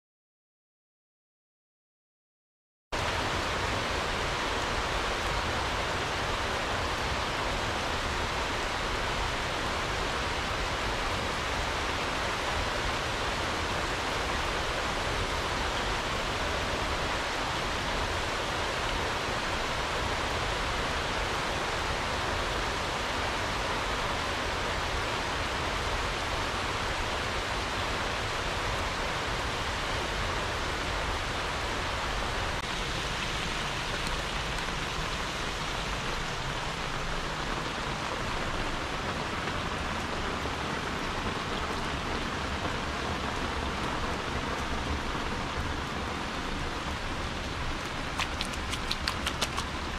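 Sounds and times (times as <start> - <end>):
steady rain falling: 3.0 - 49.9.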